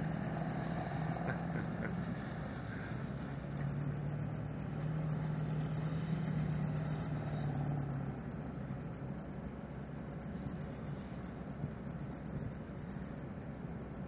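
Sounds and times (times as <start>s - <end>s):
truck engine driving through mud: 0.0s - 14.0s.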